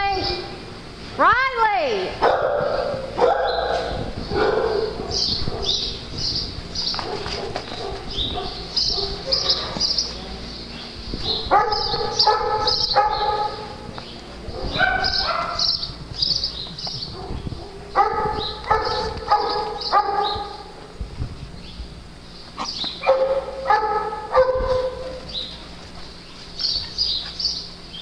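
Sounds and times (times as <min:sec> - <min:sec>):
dogs barking: 0:02.2 - 0:10.4, 0:11.1 - 0:21.0, 0:22.5 - 0:28.0.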